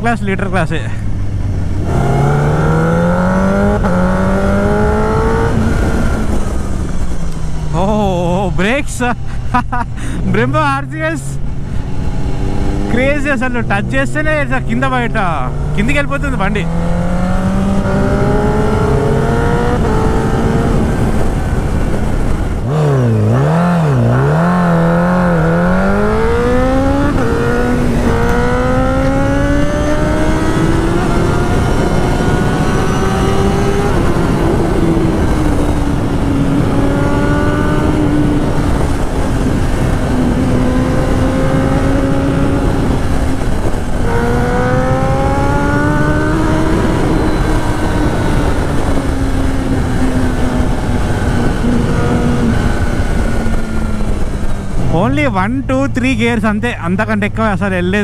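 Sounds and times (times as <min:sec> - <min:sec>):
wind noise: 0:00.0 - 0:58.0
motorcycle engine revving: 0:01.1 - 0:08.3, 0:10.8 - 0:55.2.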